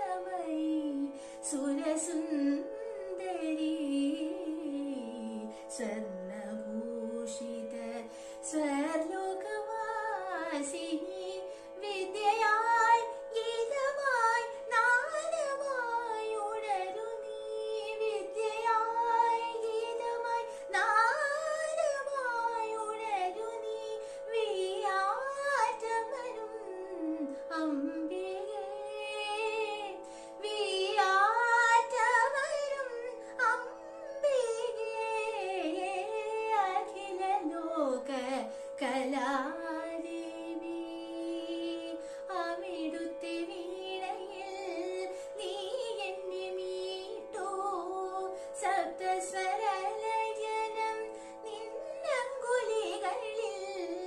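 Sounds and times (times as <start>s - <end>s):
woman singing: 0.0s - 54.0s.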